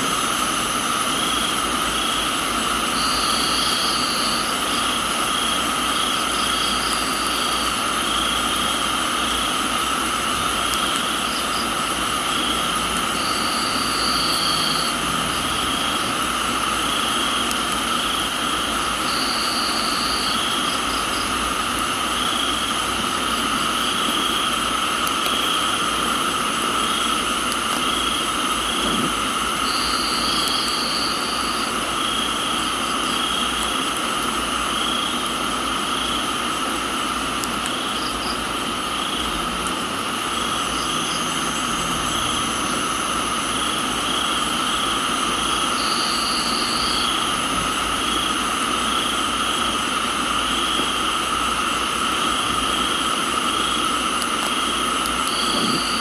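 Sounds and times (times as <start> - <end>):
crickets and insects trilling: 0.0 - 56.0
rain hissing: 0.0 - 56.0.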